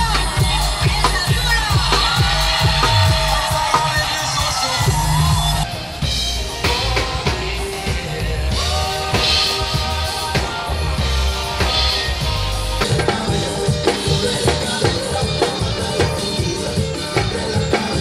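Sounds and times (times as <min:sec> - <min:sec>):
busy drumming: 0:00.0 - 0:18.0
deep bass: 0:00.0 - 0:18.0
music over loudspeakers: 0:00.0 - 0:18.0.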